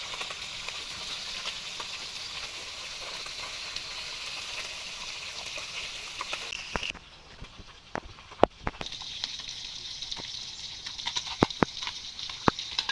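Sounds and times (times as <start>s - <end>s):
food sizzling in hot oil: 0.0s - 12.9s
small crackles: 0.0s - 12.9s.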